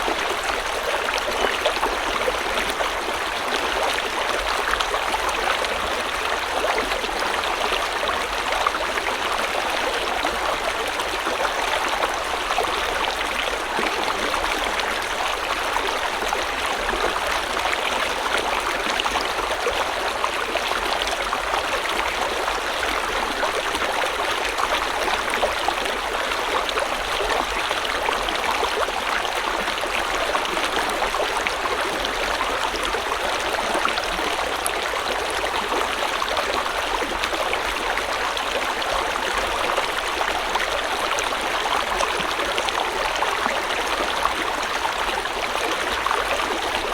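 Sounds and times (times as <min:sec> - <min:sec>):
stream flowing over rocks: 0:00.0 - 0:46.9.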